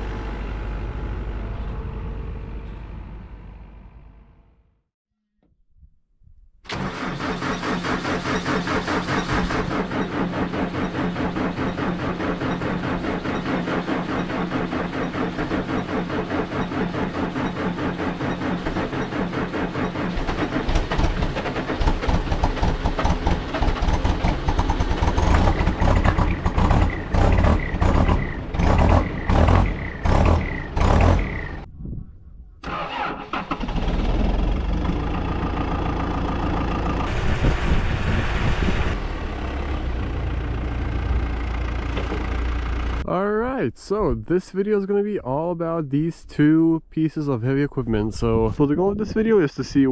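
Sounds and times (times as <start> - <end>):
diesel engine running: 0.0 - 4.7, 6.7 - 31.7, 32.6 - 44.1.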